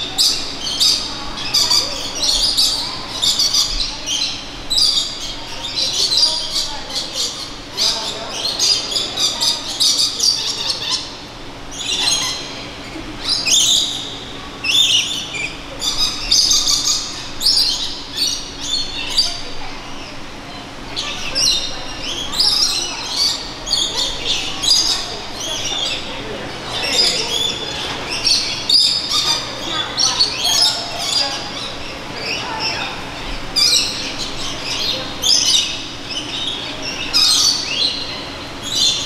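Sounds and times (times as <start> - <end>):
flock of parrots screeching: 0.0 - 39.0.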